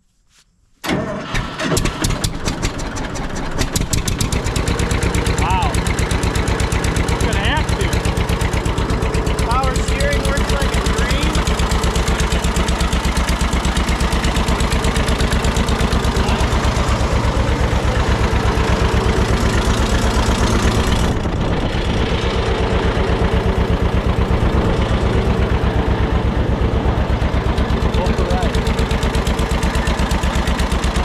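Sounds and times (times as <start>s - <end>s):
tractor engine running: 0.8s - 31.0s.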